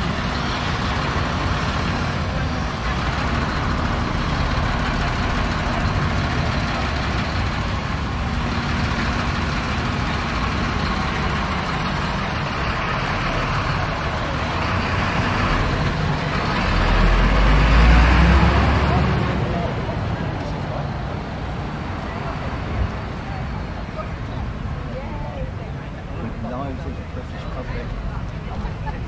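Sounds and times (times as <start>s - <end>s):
street ambience low rumble: 0.0s - 29.0s.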